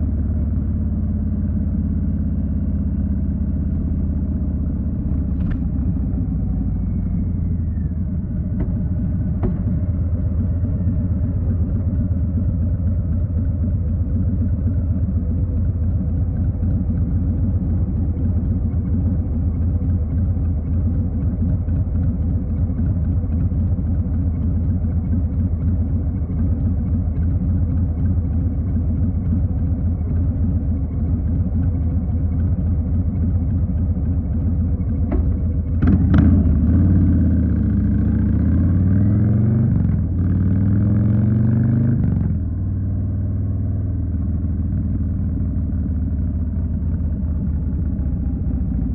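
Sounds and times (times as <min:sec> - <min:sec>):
motorcycle engine rumbling: 0:00.0 - 0:48.9.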